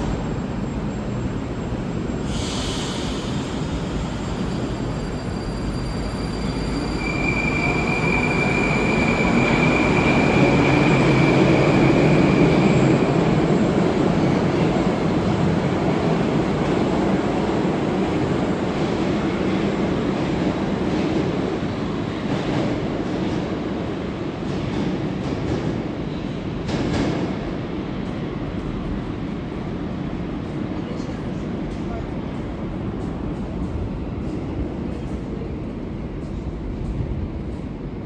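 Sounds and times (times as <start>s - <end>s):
train rumbling through station: 0.0s - 38.0s.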